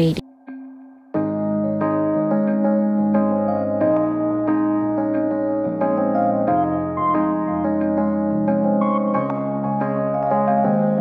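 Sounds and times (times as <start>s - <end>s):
soft electric piano music: 0.5s - 11.0s.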